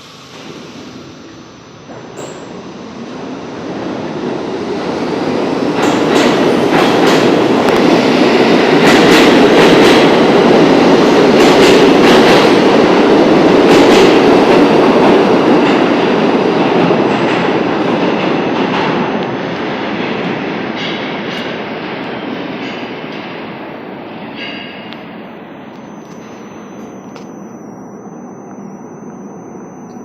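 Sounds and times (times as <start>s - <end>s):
subway train rumble: 0.0s - 30.0s.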